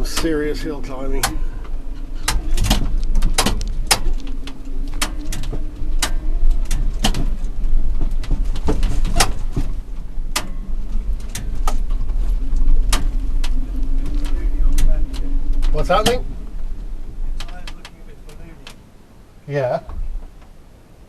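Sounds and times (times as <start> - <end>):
knocks and rattles: 0.0 - 18.8
electric truck hum and rumble: 0.0 - 21.0.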